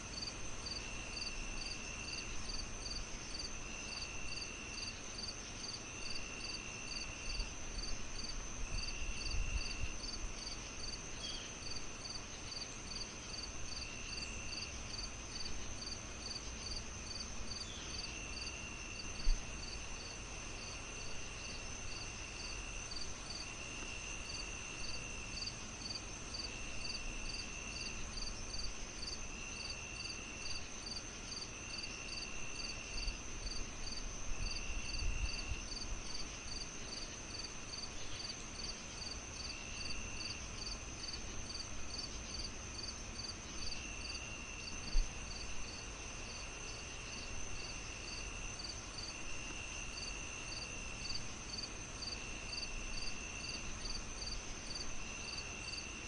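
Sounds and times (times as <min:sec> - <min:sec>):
crickets chirping: 0:00.0 - 0:56.0
high insect trill: 0:00.0 - 0:56.0
low insect trills: 0:00.0 - 0:56.0.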